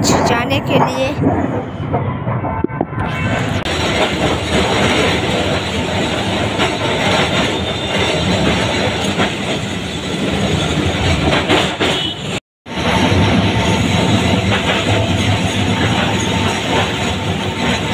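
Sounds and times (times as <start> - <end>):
tram rumbling and rattling: 0.0 - 17.9
wheels clacking on rails: 0.0 - 17.9.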